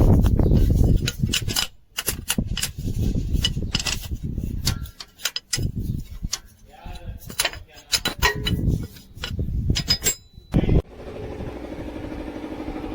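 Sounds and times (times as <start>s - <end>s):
spanner clinking on metal: 0.1s - 10.6s.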